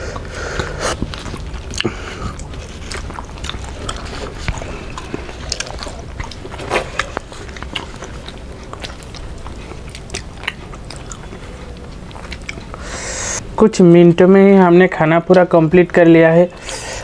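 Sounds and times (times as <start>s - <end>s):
people chewing: 0.0s - 13.4s, 16.5s - 17.0s
steady low hum: 0.0s - 17.0s.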